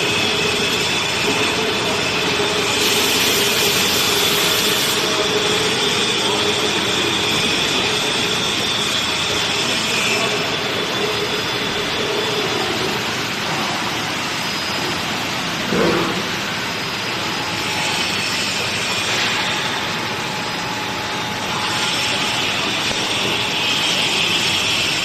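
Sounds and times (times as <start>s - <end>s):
band saw whirring and hissing: 0.0s - 25.0s.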